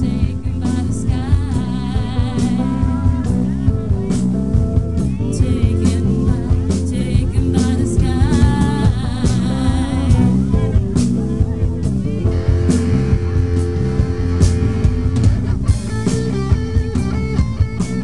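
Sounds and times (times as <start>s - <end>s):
electric guitar lead: 0.0s - 18.0s
live rock band playing: 0.0s - 18.0s.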